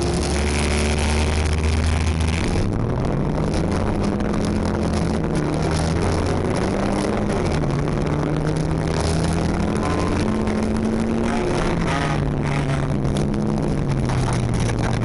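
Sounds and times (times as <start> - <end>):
race car engine running hard: 0.0 - 15.0
tyre and road noise: 0.0 - 15.0.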